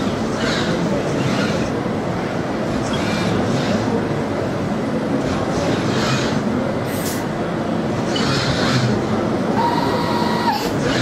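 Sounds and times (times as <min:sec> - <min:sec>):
rumbling background din: 0:00.0 - 0:11.0.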